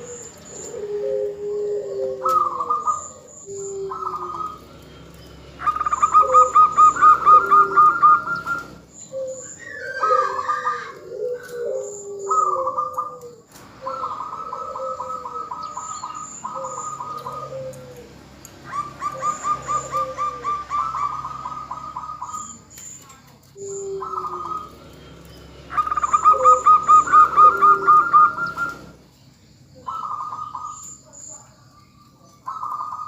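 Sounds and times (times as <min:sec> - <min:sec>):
dove low gliding coos: 0:00.0 - 0:22.7, 0:23.6 - 0:29.0, 0:29.8 - 0:31.0, 0:32.4 - 0:33.0
dove fast staccato calls: 0:00.0 - 0:29.1, 0:29.8 - 0:31.0.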